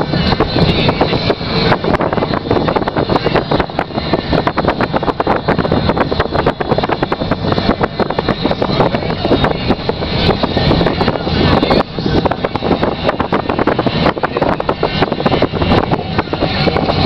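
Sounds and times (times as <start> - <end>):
car road and engine noise: 0.0 - 17.0
wind buffeting microphone: 0.0 - 17.0.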